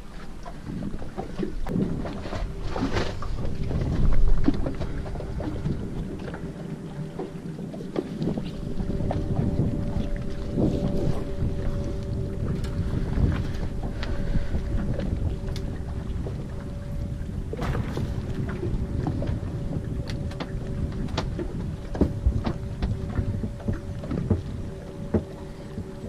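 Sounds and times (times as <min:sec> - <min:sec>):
wind buffeting microphone: 0:00.0 - 0:26.0
faint steady hum: 0:01.4 - 0:26.0.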